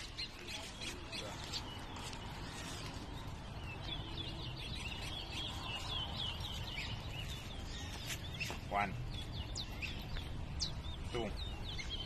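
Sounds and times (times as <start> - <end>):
finch singing high chirps: 0.0 - 12.0.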